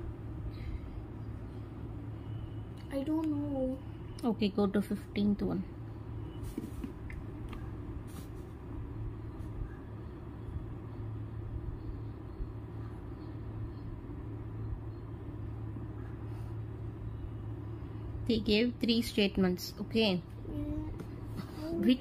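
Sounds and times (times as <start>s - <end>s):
low background hum and rumble: 0.0s - 22.0s.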